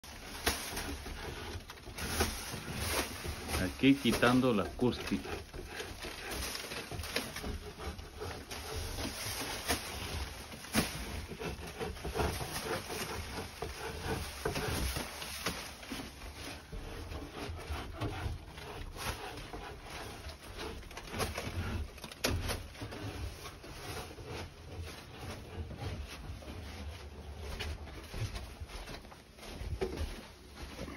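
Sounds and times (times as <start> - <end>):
scraper scraping ceiling: 0.0 - 30.9.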